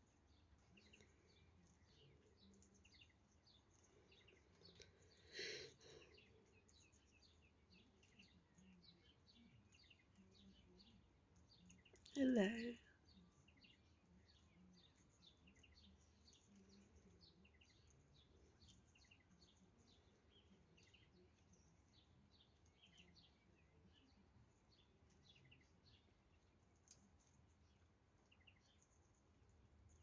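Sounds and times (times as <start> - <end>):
birds twittering: 0.0 - 30.0.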